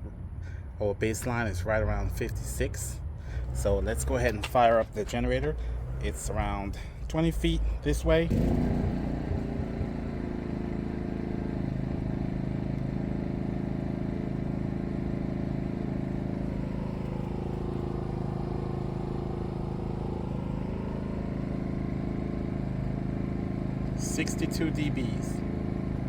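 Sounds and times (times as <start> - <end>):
generator engine humming: 0.0 - 26.0.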